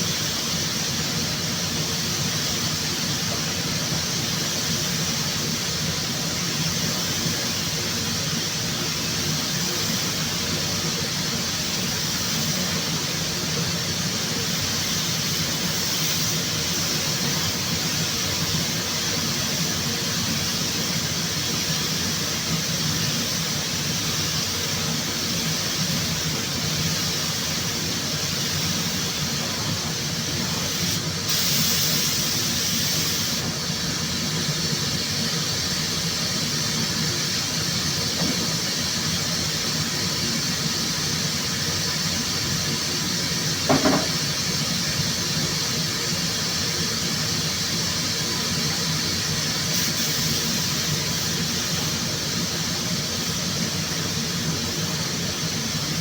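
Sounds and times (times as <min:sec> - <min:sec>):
rushing hiss of air: 0:00.0 - 0:56.0.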